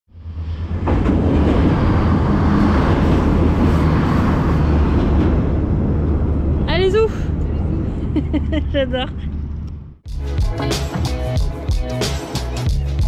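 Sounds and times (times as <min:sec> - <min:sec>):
train rumbling over bridge: 0:00.1 - 0:12.0.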